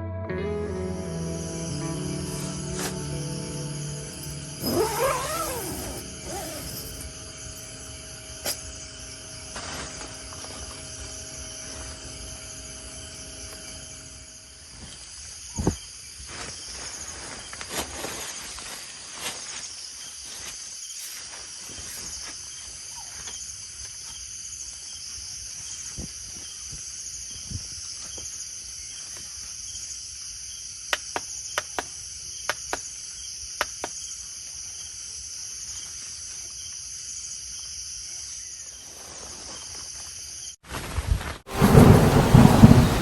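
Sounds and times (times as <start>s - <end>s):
insects chirring: 0.9s - 43.0s.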